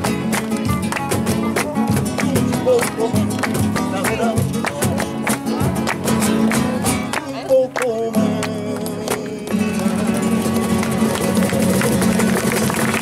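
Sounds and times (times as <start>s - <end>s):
acoustic guitar strummed fast: 0.0s - 13.0s.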